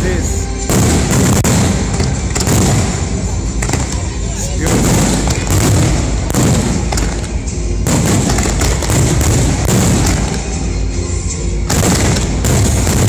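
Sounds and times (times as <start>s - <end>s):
fireworks crackling: 0.0s - 13.0s
music: 0.0s - 13.0s
firework shells bursting: 0.7s - 10.8s, 11.7s - 13.0s.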